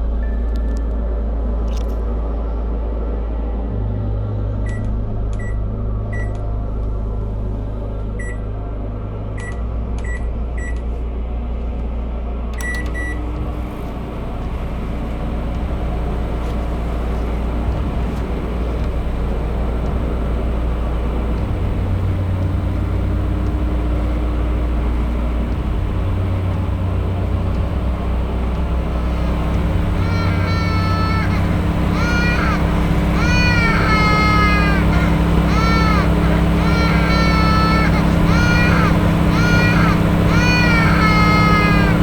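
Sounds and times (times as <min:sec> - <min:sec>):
microwave oven humming: 0:05.5 - 0:42.0.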